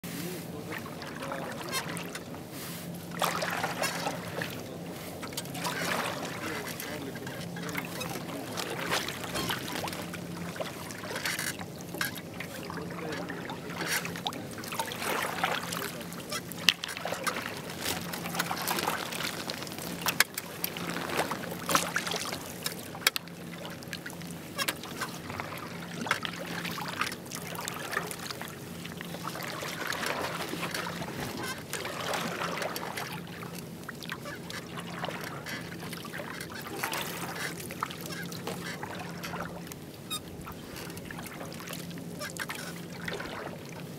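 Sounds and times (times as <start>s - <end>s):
paddle splashing in water: 0.0s - 43.9s.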